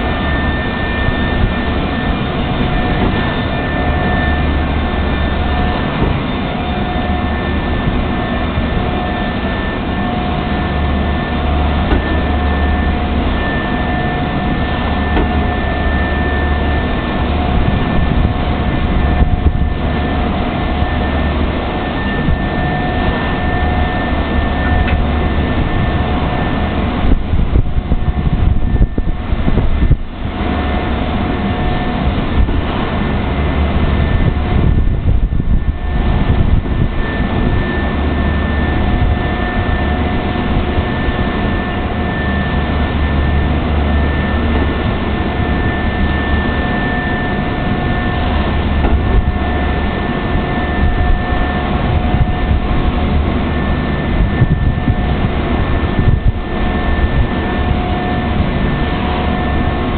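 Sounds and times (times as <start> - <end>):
low hum: 0.0 - 59.9
steady whining tones: 0.0 - 59.9.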